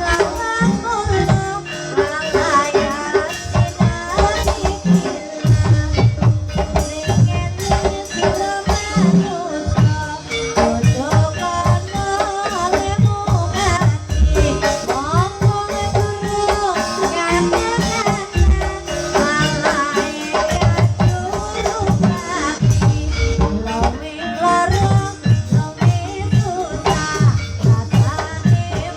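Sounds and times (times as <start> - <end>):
drums and rattling percussion: 0.0 - 28.9.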